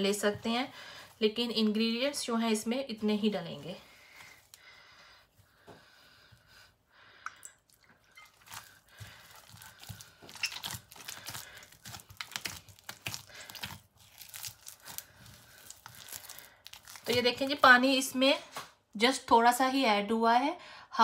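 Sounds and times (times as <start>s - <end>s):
dough squishing and crunching: 0.0s - 6.5s, 7.6s - 18.7s.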